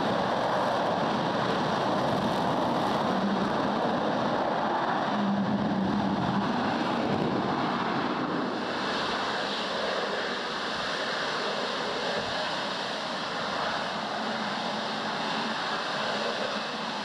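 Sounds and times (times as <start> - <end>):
rushing hiss of steam and water: 0.0 - 17.0.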